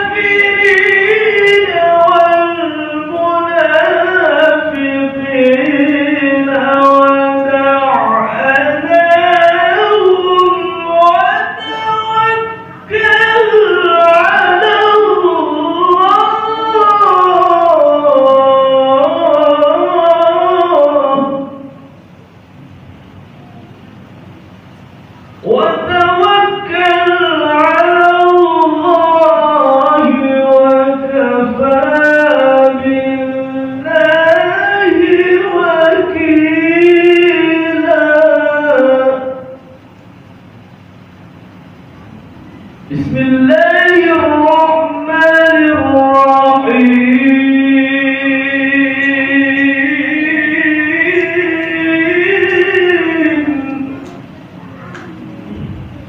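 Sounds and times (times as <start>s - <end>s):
person reciting melodically: 0.0s - 22.0s, 24.8s - 39.9s, 41.5s - 56.0s.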